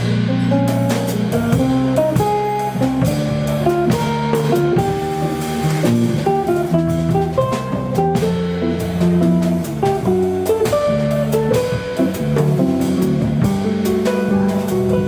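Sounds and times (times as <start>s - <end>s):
drum kit with cymbals: 0.0s - 15.0s
electric guitar melody: 0.0s - 15.0s
plucked double bass: 0.0s - 15.0s.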